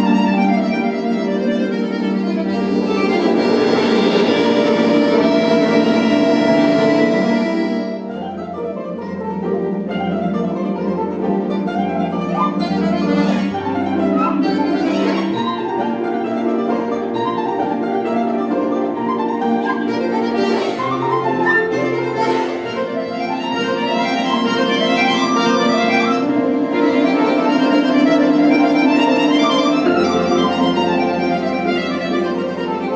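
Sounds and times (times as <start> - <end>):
folk orchestra playing: 0.0 - 32.9
ringing string notes: 0.0 - 32.9.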